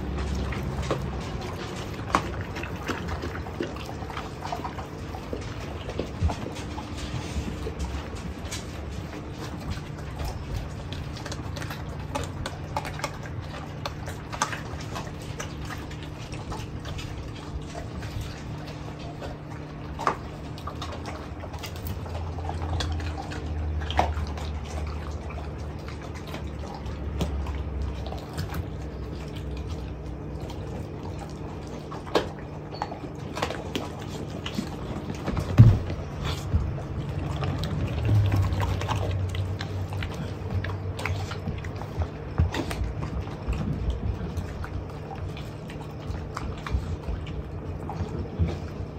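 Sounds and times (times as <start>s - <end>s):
puppy licking and chewing: 0.0s - 48.9s
steady low hum: 0.0s - 48.9s.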